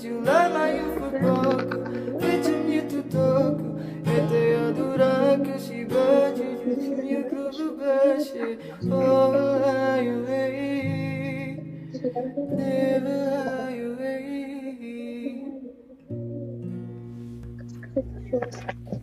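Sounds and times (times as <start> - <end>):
man singing: 0.0 - 15.8
strummed acoustic guitar: 0.0 - 19.0.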